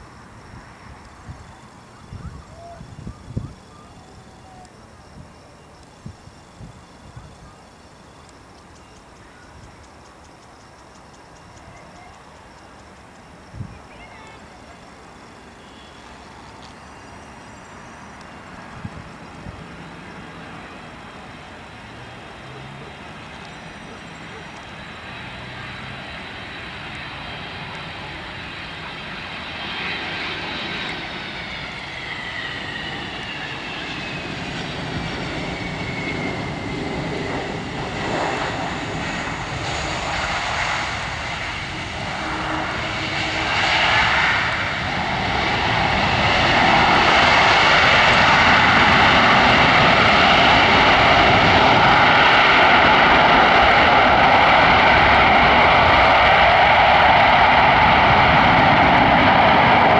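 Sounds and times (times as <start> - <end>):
jet airliner engine whine: 0.0 - 59.9.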